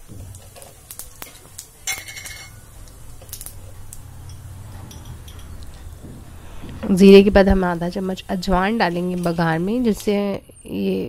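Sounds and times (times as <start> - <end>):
low steady hum: 0.0 - 11.0
seeds crackling in hot oil: 0.0 - 11.0.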